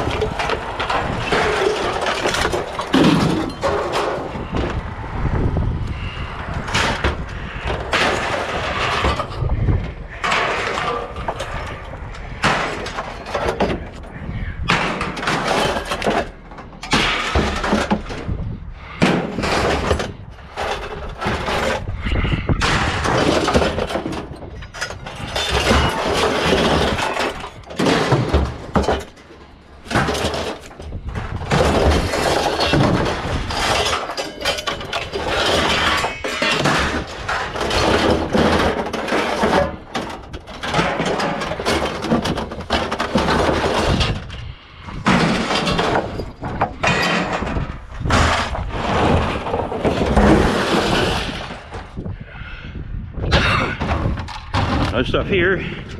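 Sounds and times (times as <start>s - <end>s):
scrap metal clanking onto a pile: 0.0s - 4.7s, 6.0s - 14.1s, 14.7s - 52.0s.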